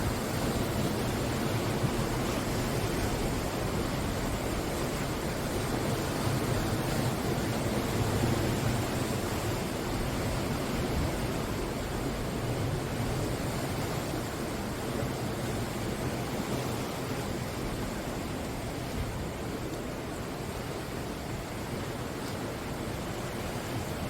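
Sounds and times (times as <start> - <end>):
sea surf washing onto shore: 0.0 - 24.0.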